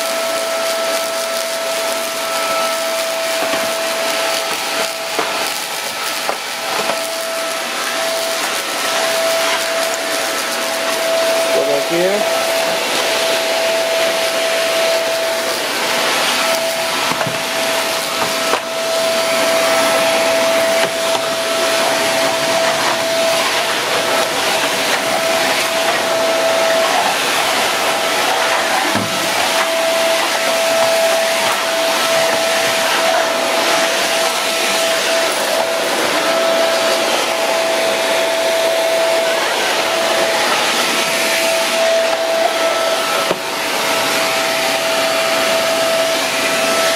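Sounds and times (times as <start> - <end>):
stick vacuum motor whine: 0.0 - 46.9.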